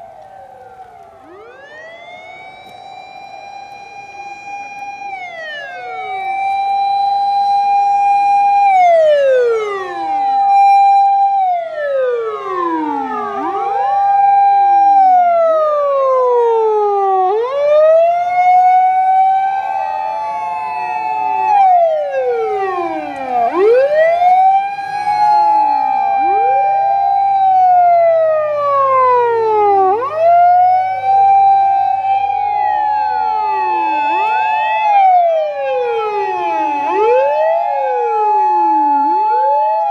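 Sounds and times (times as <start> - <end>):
emergency vehicle sirens wailing: 0.0 - 39.9.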